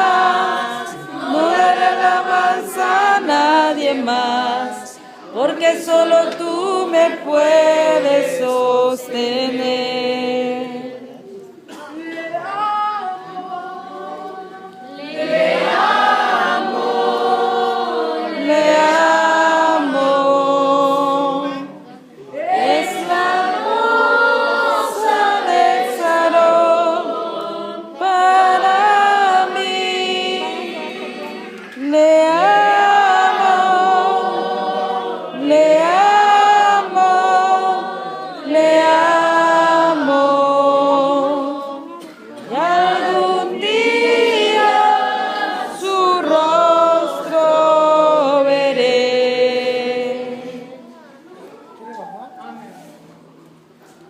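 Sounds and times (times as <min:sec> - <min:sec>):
group singing unaccompanied: 0:00.0 - 0:51.0.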